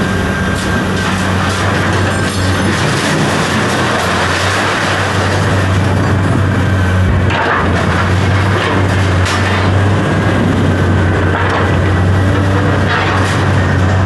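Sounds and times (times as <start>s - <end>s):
heavy machinery engine running: 0.0s - 14.0s
loud noisy rattle: 0.0s - 14.0s.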